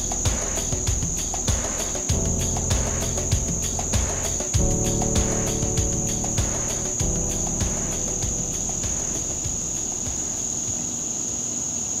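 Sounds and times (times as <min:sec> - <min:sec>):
background music with beat: 0:00.0 - 0:10.8
cicada chorus drone: 0:00.0 - 0:12.0.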